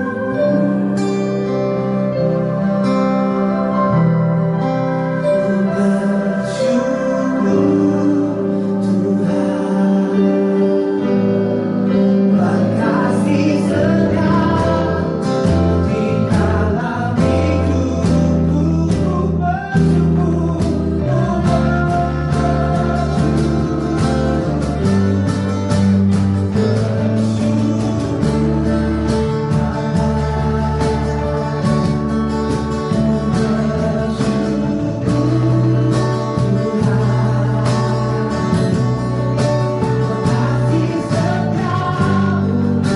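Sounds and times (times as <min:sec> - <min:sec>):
guitar: 0:00.0 - 0:42.9
person singing worship music: 0:00.0 - 0:42.9
sustained instrumental chords: 0:00.0 - 0:42.9.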